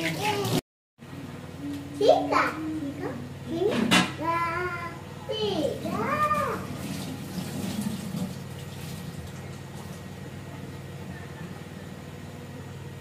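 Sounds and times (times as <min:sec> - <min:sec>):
steady low hum: 0:01.0 - 0:13.0.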